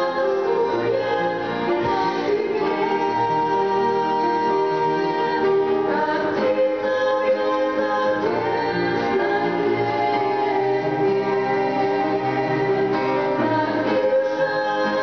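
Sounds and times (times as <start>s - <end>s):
instrumental accompaniment: 0.0s - 15.0s
women singing a duet: 0.0s - 15.0s.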